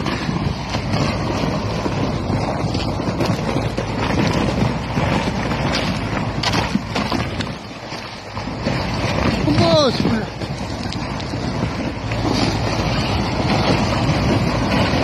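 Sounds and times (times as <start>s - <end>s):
water sloshing: 0.0s - 15.0s.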